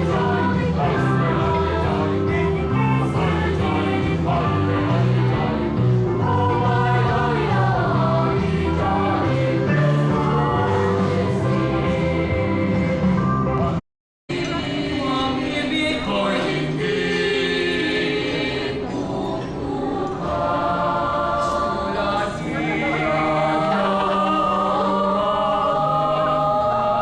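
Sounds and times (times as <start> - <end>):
choir singing slow song: 0.0 - 13.3, 14.3 - 27.0.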